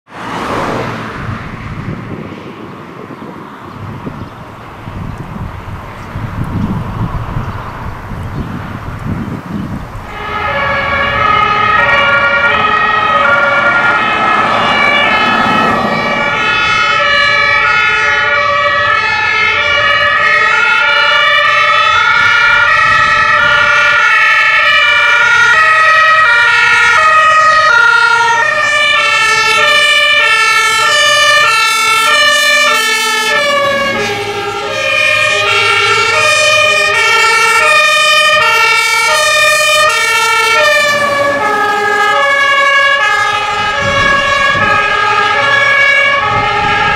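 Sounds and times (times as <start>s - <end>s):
engine and road noise: 0.0s - 46.9s
two-tone sirens: 0.1s - 46.9s.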